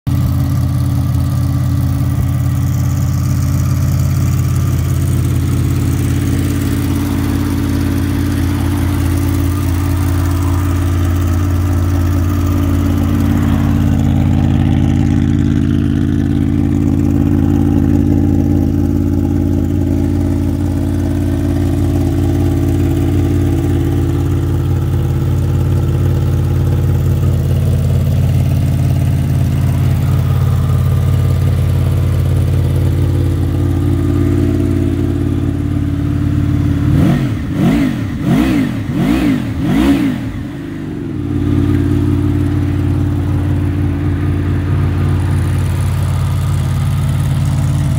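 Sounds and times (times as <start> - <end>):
motorcycle engine idling: 0.1 - 47.9.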